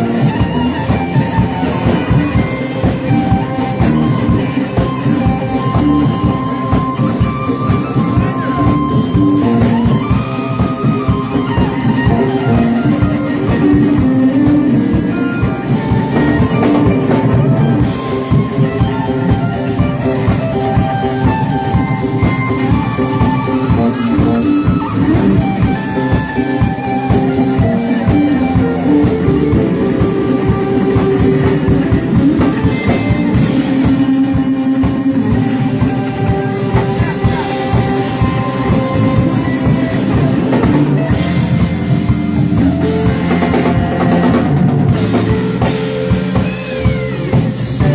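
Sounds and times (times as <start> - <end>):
bass guitar: 0.0 - 47.9
drum kit: 0.0 - 47.9
electric guitar lead: 0.0 - 47.9.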